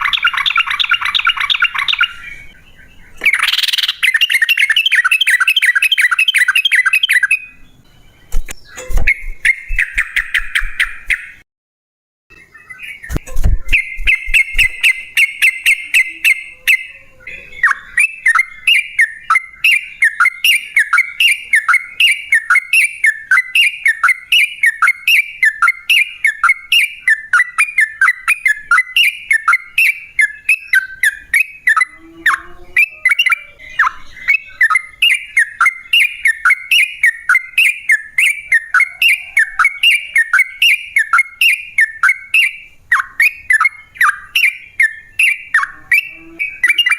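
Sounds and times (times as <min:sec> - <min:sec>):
bird chattering call: 0:00.0 - 0:07.5, 0:12.8 - 0:46.9.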